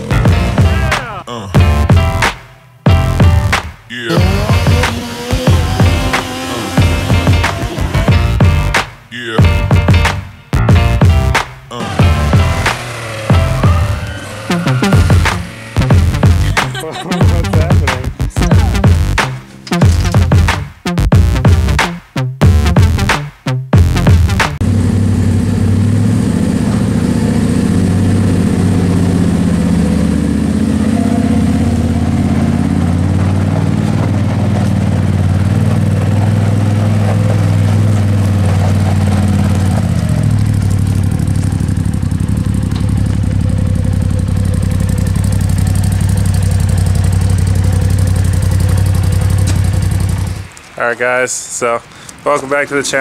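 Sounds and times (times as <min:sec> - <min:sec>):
engine running at low revs: 0:02.9 - 0:23.1, 0:23.8 - 0:50.8.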